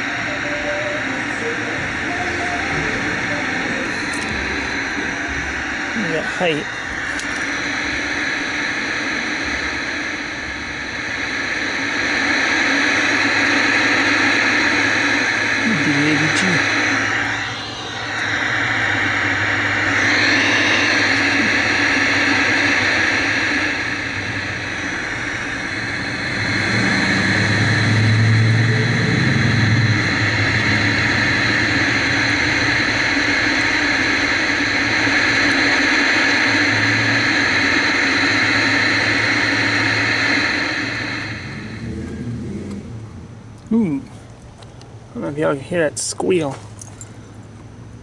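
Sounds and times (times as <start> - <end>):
television static hiss: 0.0 - 42.0
low mains hum: 0.0 - 48.0.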